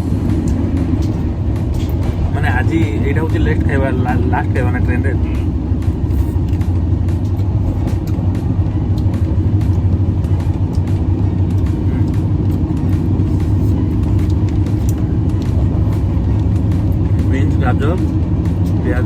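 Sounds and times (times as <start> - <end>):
train rumble inside coach: 0.0 - 19.0.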